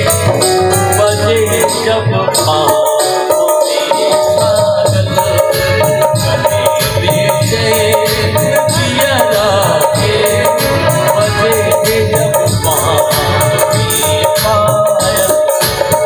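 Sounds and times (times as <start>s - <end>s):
dholak drumming: 0.0s - 16.0s
harmonium and keyboard chords: 0.0s - 16.0s.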